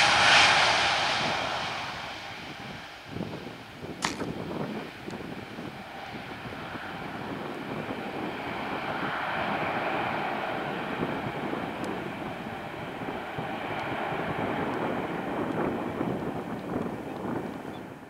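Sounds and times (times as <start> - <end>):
jet engines at takeoff: 0.0 - 18.0.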